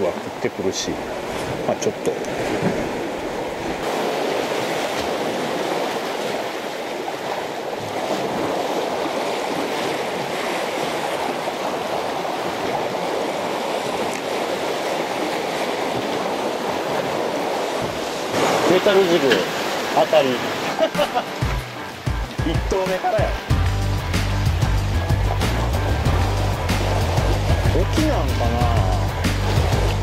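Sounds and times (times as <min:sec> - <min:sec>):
sea water washing among concrete blocks: 0:00.0 - 0:23.5, 0:24.2 - 0:30.0.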